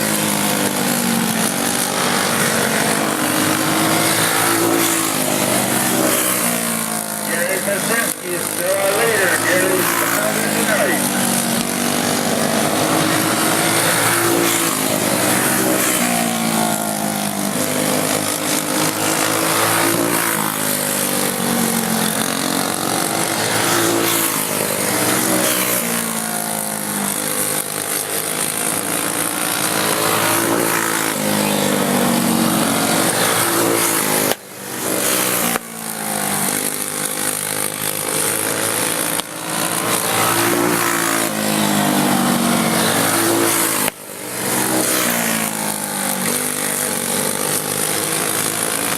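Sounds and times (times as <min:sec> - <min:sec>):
racing kart engines: 0:00.0 - 0:48.9.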